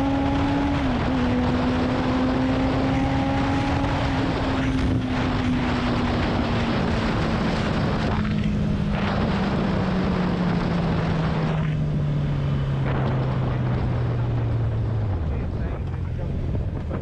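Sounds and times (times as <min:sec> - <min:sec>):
motorcycle engine: 0:00.0 - 0:17.0
wind rush on microphone: 0:00.0 - 0:17.0.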